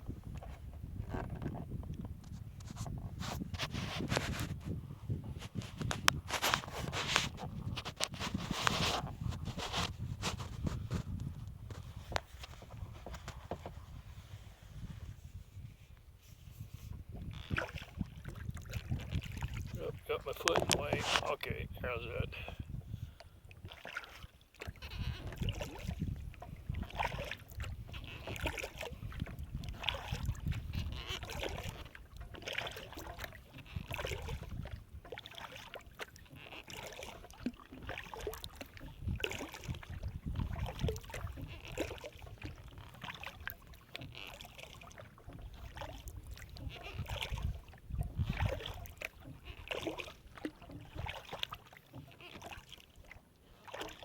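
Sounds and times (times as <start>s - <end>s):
paddle splashing in water: 2.4s - 54.0s.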